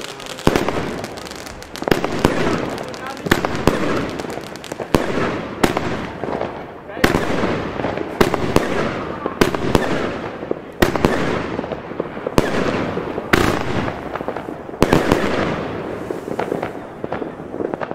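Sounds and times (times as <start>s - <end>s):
fireworks bangs: 0.0s - 17.9s
fireworks hiss: 0.0s - 17.9s.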